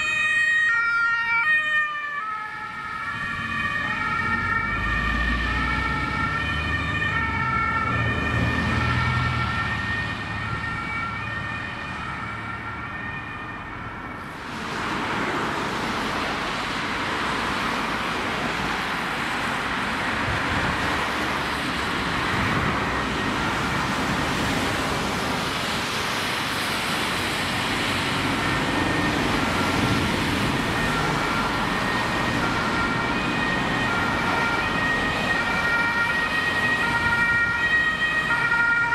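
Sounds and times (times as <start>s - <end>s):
two-tone ambulance siren: 0.0s - 14.5s, 18.6s - 38.9s
traffic noise: 0.0s - 38.9s.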